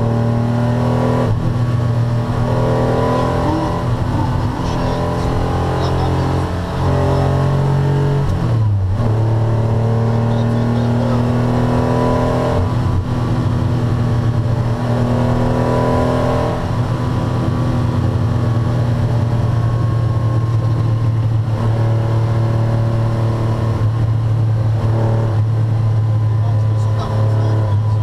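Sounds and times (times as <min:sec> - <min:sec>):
car engine revving from cabin: 0:00.0 - 0:28.0.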